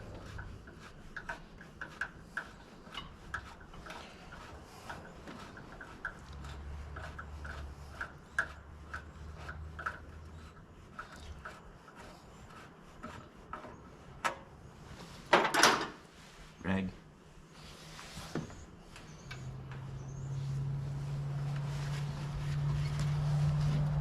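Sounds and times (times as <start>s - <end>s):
rubbing: 0.0s - 15.3s, 17.4s - 24.0s.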